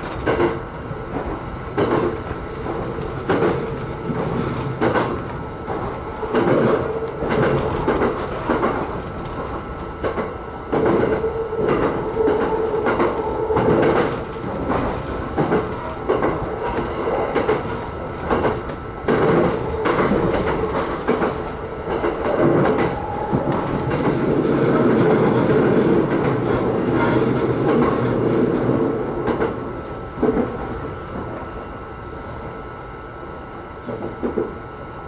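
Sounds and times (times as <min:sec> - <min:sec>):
wheels clicking over rail joints: 0:00.0 - 0:29.6
train running rumble: 0:00.0 - 0:35.0.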